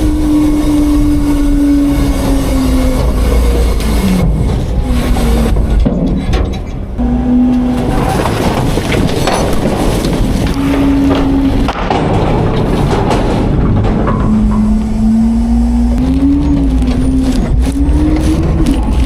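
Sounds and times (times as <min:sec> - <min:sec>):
hydraulic whine: 0:00.0 - 0:19.0
truck engine running under load: 0:00.0 - 0:19.0
metal clanks: 0:02.5 - 0:07.0, 0:07.8 - 0:19.0.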